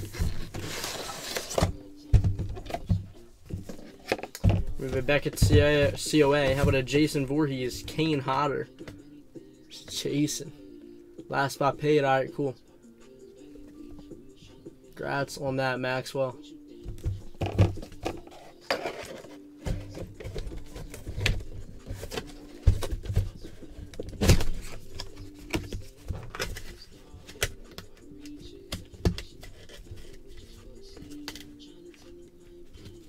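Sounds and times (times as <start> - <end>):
background music: 0.0 - 33.0.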